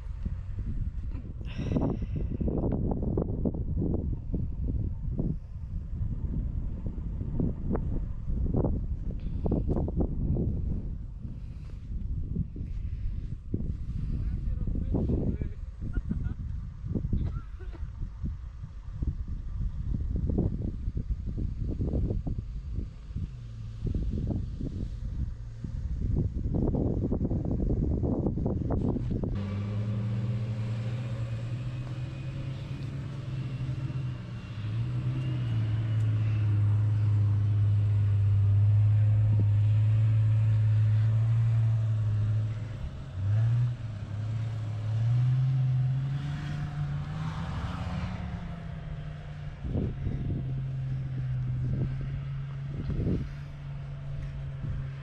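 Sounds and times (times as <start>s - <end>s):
four-wheel-drive engine running: 0.0s - 55.0s.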